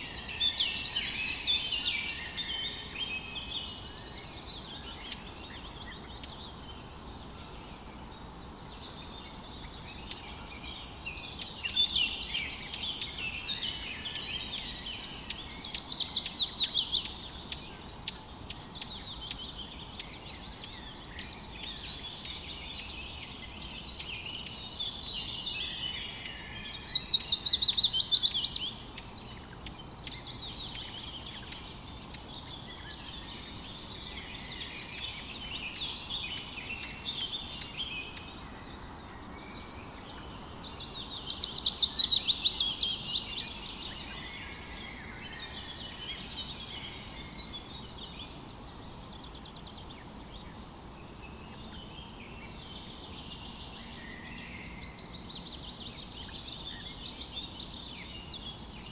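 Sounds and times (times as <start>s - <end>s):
faint steady hiss: 0.0s - 58.9s
songbirds chorus: 0.0s - 58.9s.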